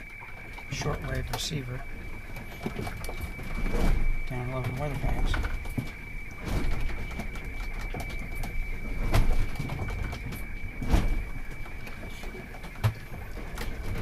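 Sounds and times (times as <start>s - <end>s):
high steady radio tone: 0.0s - 14.0s.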